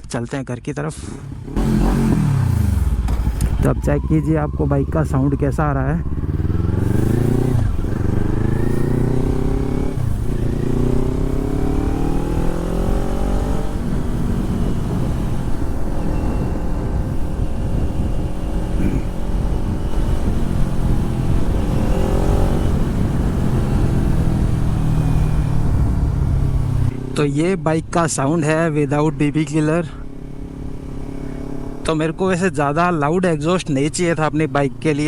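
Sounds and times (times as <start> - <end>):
motorcycle engine accelerating: 1.0 - 28.0, 28.7 - 32.7.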